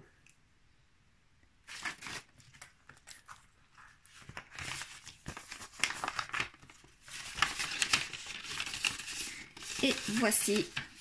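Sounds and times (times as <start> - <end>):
paper and plastic rustling: 1.7 - 11.0.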